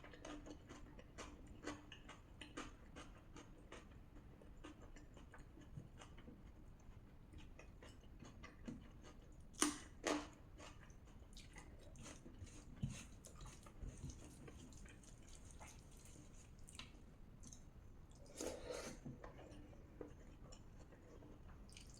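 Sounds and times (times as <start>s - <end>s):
close-up chewing: 0.0s - 21.9s.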